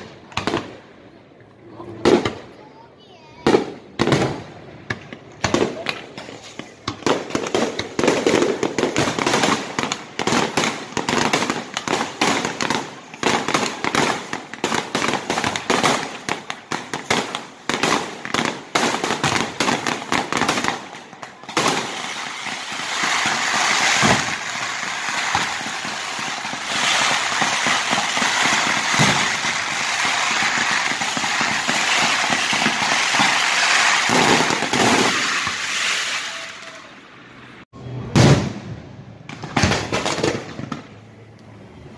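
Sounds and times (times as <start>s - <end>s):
fireworks cracks and bangs: 0.0s - 41.3s
fireworks crackle: 1.6s - 41.3s.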